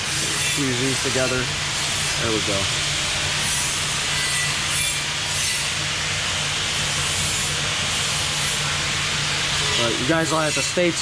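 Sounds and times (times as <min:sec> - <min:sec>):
machine hiss and hum: 0:00.0 - 0:11.0.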